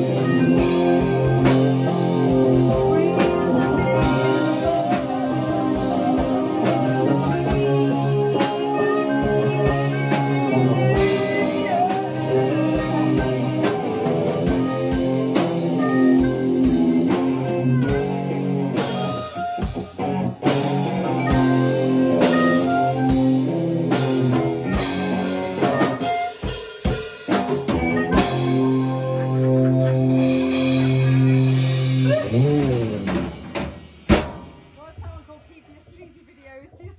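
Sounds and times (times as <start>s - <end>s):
harmonica with bending notes: 0.0s - 20.2s, 20.9s - 32.9s
electric guitar: 0.0s - 34.7s
drum kit: 0.0s - 36.9s.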